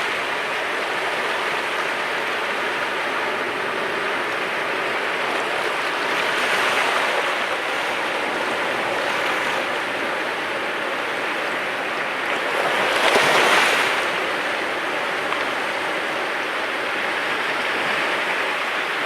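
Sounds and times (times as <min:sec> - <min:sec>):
sea waves washing ashore: 0:00.0 - 0:19.0.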